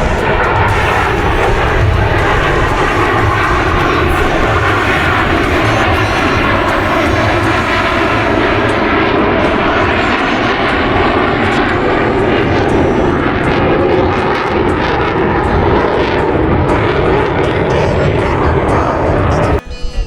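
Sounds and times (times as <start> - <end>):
jet aircraft engine noise: 0.0 - 19.6.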